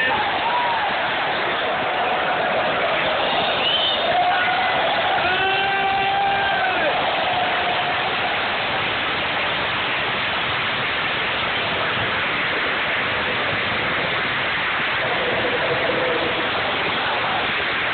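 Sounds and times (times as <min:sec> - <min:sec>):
stadium crowd roar: 0:00.0 - 0:17.9.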